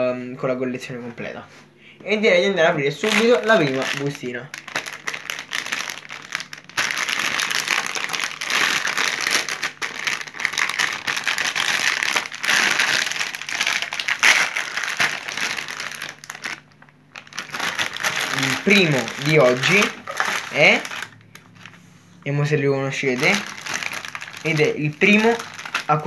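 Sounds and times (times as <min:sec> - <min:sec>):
plastic packet crinkling: 0:02.9 - 0:21.8, 0:23.0 - 0:26.0.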